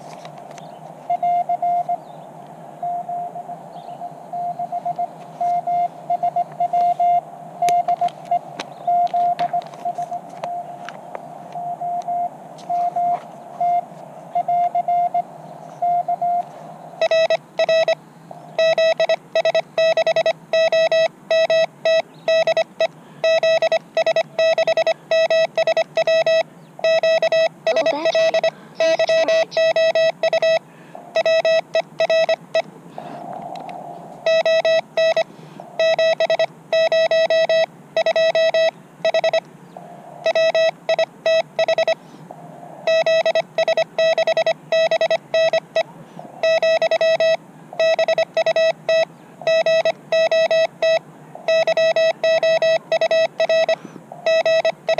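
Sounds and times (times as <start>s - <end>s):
morse code tone: 1.1s - 2.0s, 2.8s - 10.8s, 11.5s - 18.0s, 18.6s - 32.6s, 34.2s - 39.4s, 40.2s - 42.0s, 42.8s - 54.9s.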